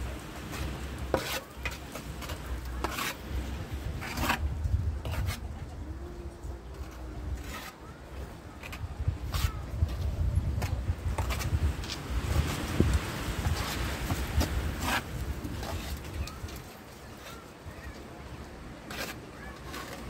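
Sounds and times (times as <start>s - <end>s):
hand tool scraping: 0.4s - 5.5s, 6.7s - 17.5s, 18.9s - 20.0s.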